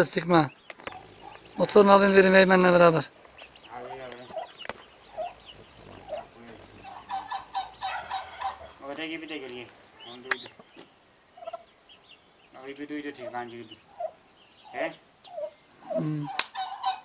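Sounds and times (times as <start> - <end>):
turkey poults peeping: 0.0 - 17.0
lower turkey calls: 0.6 - 17.0.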